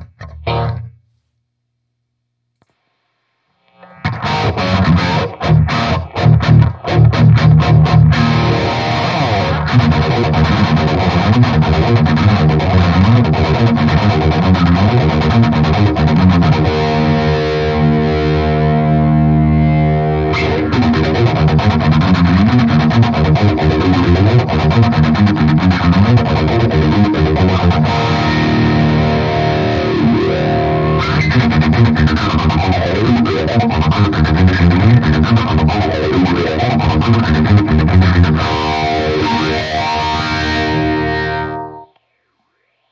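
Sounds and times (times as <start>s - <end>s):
distorted electric guitar: 0.0s - 1.0s, 2.6s - 42.9s.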